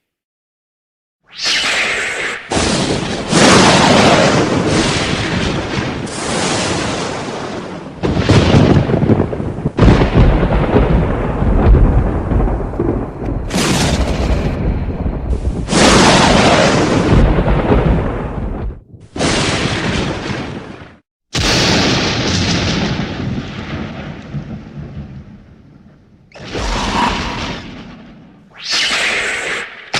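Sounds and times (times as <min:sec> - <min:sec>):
thunder cracks and rumble: 0:02.5 - 0:28.5.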